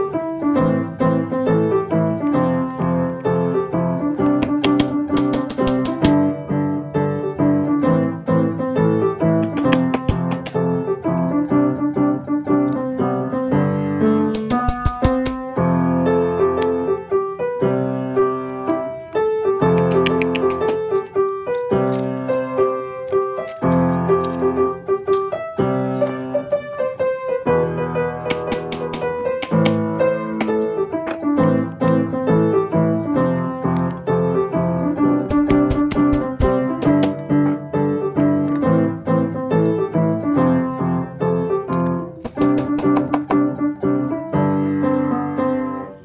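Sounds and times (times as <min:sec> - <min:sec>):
piano music: 0:00.0 - 0:46.0.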